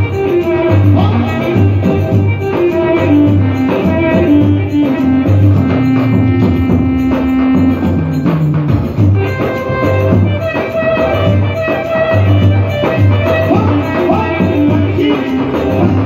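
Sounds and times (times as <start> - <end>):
electronic keyboard melody: 0.0 - 16.0
steady drum beat: 0.0 - 16.0.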